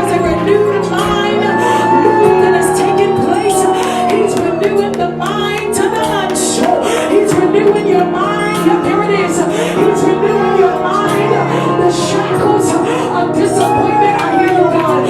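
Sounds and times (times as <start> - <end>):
person singing: 0.0 - 15.0
sustained keyboard chords: 0.0 - 15.0.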